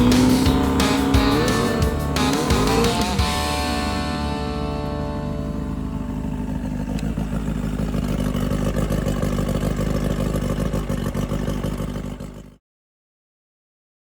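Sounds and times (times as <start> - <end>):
outboard motor running: 0.0 - 12.6.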